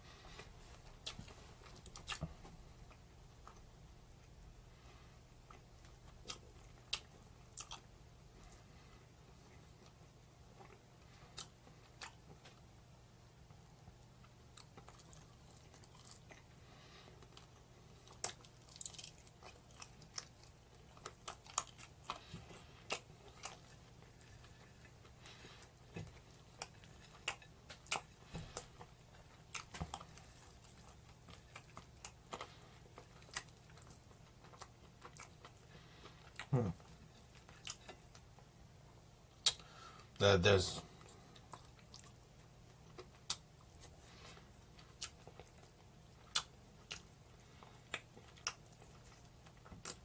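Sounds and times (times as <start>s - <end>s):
person chewing chicken: 0.0s - 12.7s, 14.2s - 40.2s, 40.9s - 50.0s.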